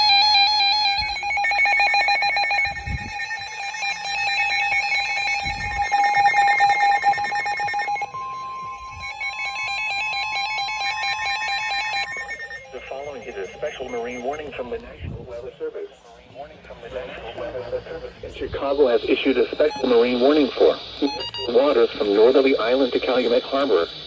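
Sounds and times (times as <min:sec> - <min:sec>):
rapidly pulsing electronic beeps: 0:00.0 - 0:15.6, 0:16.9 - 0:24.0
steady warning alarm tone: 0:00.0 - 0:15.8, 0:17.4 - 0:24.0.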